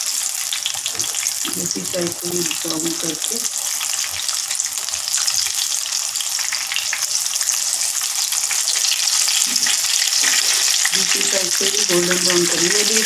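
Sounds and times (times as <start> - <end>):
patties sizzling in hot oil: 0.0 - 13.0
spatula turning food in pan: 0.0 - 13.0.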